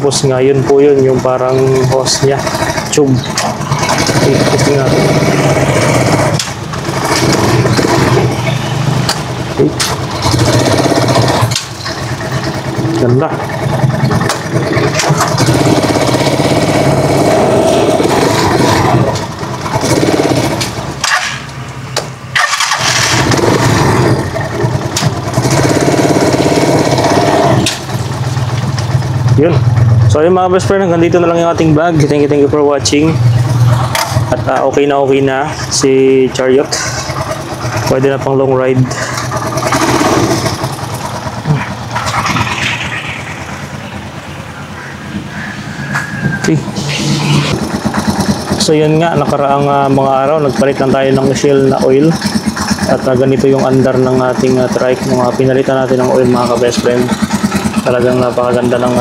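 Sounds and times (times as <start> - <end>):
motor trike engine running: 0.0 - 59.0.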